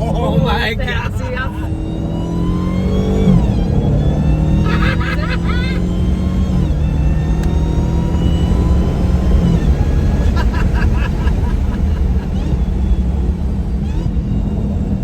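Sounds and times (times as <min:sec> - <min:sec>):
car engine rumbling: 0:00.0 - 0:15.0
supercharger whine: 0:00.0 - 0:15.0.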